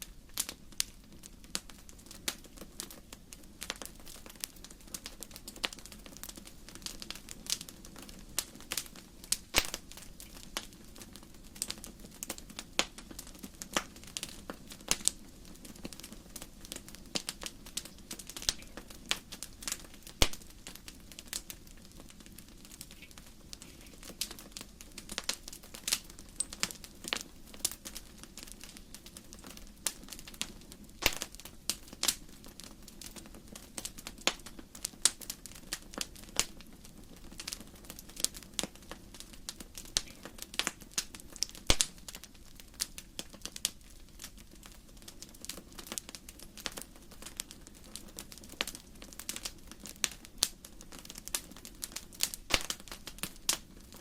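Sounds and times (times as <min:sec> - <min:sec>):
logs crackling and popping: 0:00.0 - 0:54.0.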